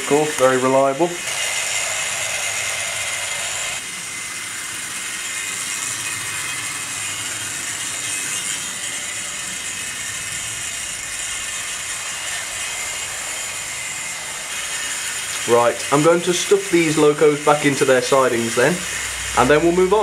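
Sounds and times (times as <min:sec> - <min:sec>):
model train motors whirring: 0:00.0 - 0:20.0.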